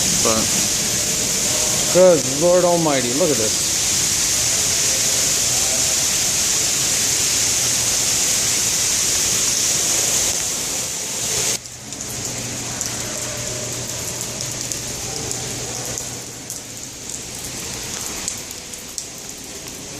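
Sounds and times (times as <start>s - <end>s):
scattered water drips: 0.0s - 19.9s
water splashing onto floor: 0.0s - 19.9s.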